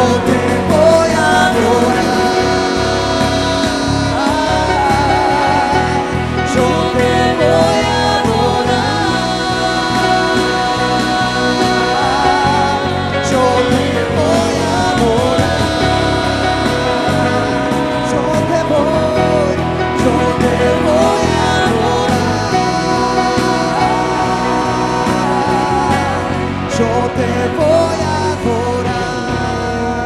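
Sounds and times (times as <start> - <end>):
drums: 0.0 - 30.0
guitars: 0.0 - 30.0
keyboard: 0.0 - 30.0
voices singing: 0.0 - 30.0.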